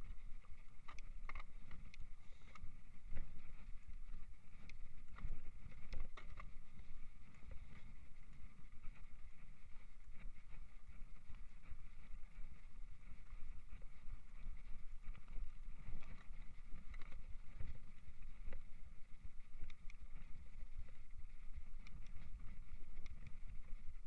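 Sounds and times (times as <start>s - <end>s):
bike rattling ticks: 0.0s - 24.0s.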